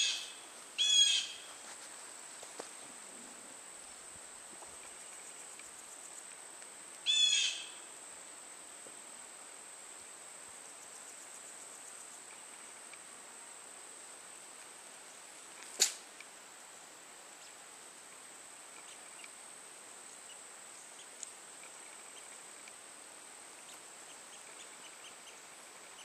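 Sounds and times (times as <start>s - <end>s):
insects droning in a field: 0.0s - 26.0s.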